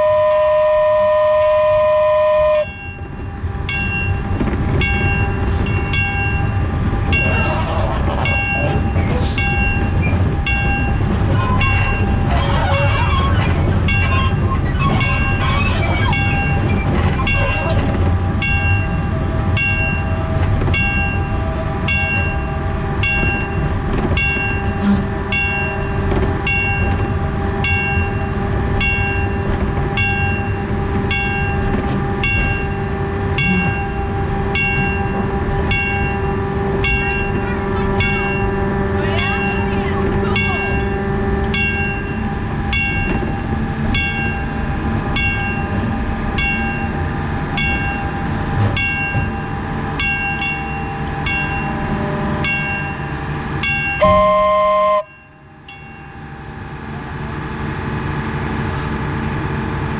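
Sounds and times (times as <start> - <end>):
locomotive engine low rumble: 0.0 - 59.9.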